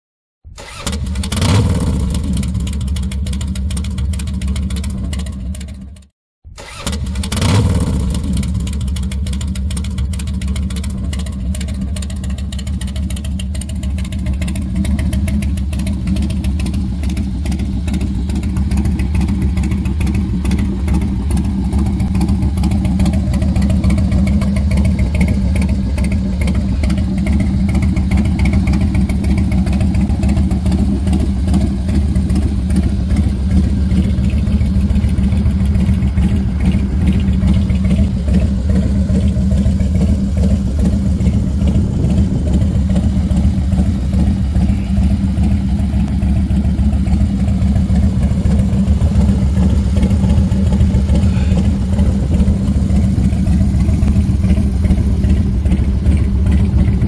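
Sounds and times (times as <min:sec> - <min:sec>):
motorcycle engine idling: 0:00.7 - 0:06.1, 0:07.0 - 0:57.0.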